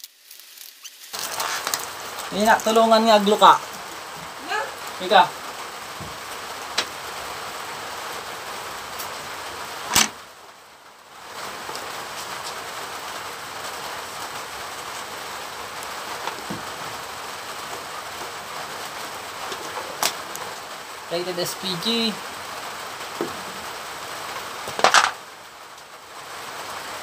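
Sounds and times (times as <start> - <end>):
rain hiss: 0.0 - 27.0.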